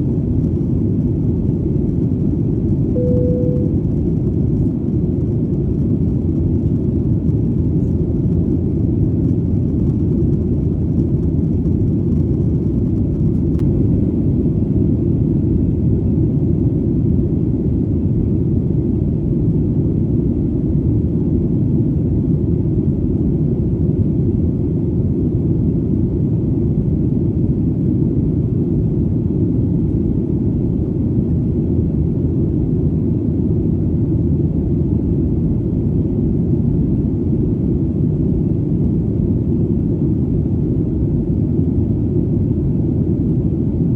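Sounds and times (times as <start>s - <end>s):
airplane engine rumble: 0.0s - 43.9s.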